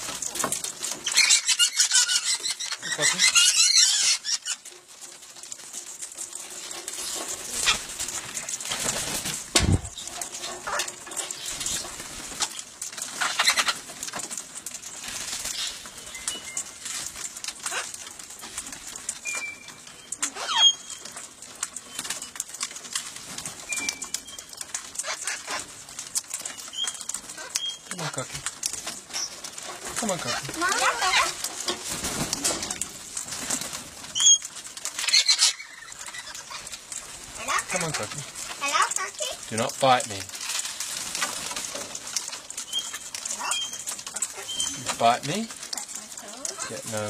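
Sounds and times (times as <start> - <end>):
clicks and rustles: 0.0 - 47.0
wing flapping: 0.0 - 47.0.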